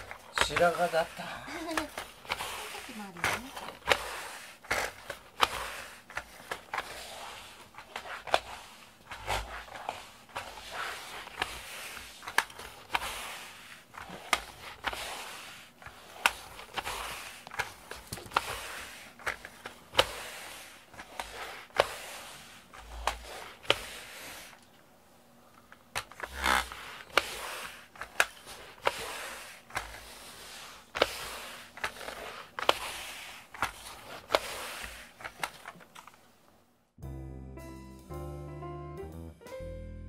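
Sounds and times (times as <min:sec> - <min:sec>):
lint roller crackling and peeling: 0:00.0 - 0:24.8, 0:25.6 - 0:36.2.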